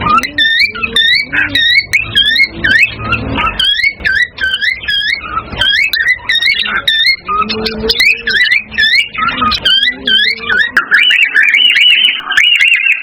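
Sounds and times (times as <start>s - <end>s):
cockatiels chirping and whistling: 0.0s - 13.0s.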